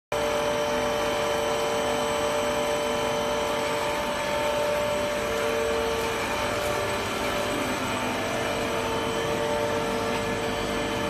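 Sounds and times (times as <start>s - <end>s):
machine hum and whine: 0.1s - 11.0s.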